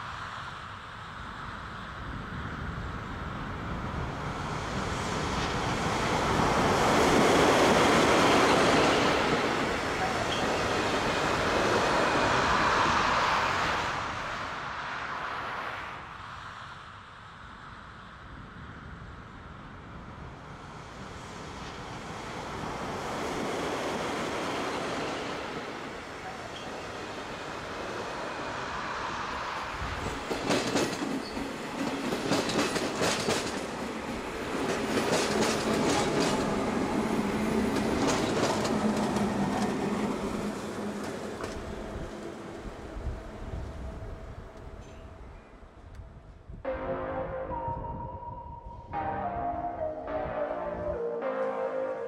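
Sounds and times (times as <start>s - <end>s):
train passing: 0.0s - 17.0s, 19.3s - 52.0s.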